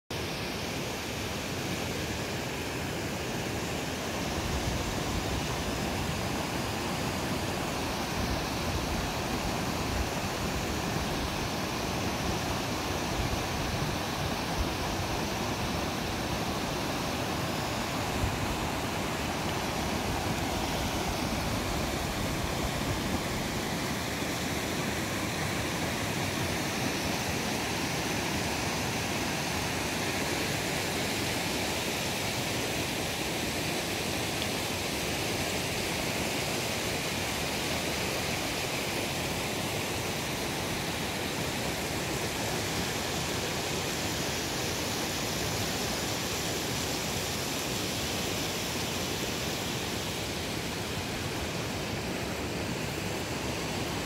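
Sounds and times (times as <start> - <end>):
waterfall and stream rushing: 0.1 - 54.0.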